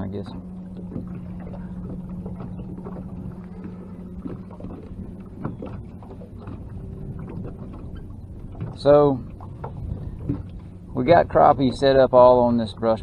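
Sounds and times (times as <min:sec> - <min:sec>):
low hum: 0:00.0 - 0:13.0
water lapping against boat hull: 0:00.0 - 0:13.0.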